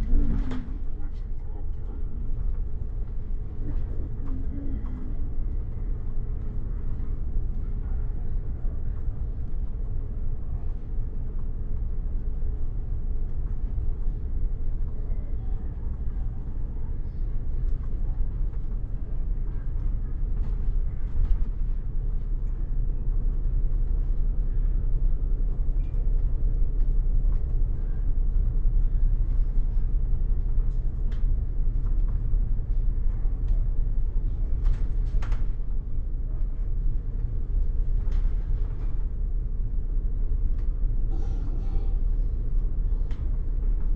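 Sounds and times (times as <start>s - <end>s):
bus engine rumble: 0.0s - 43.9s
light rattles and clicks: 0.0s - 43.9s.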